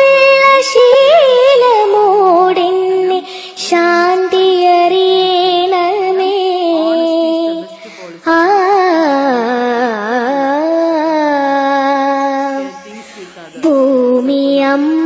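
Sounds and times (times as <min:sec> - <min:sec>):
high voice singing prayer song: 0:00.0 - 0:15.0.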